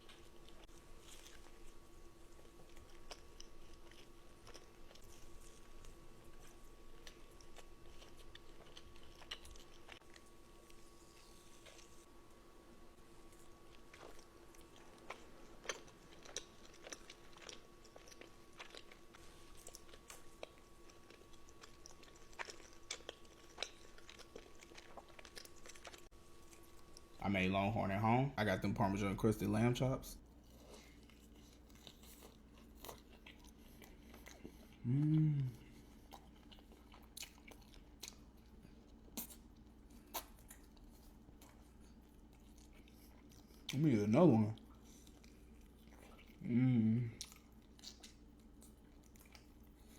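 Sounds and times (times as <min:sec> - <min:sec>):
chewing and crunching: 0:00.0 - 0:27.2, 0:30.2 - 0:49.9
faint steady hum: 0:00.0 - 0:49.9.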